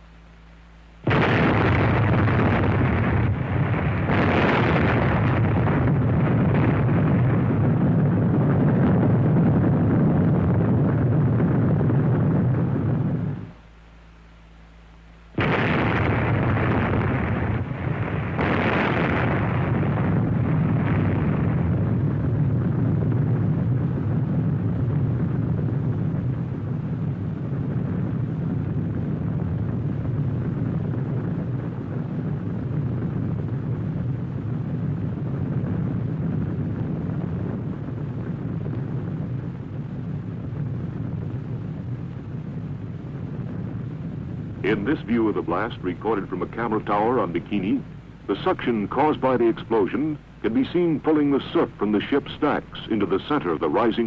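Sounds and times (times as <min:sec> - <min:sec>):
deep explosion rumble: 0:01.0 - 0:13.6, 0:15.4 - 0:54.0.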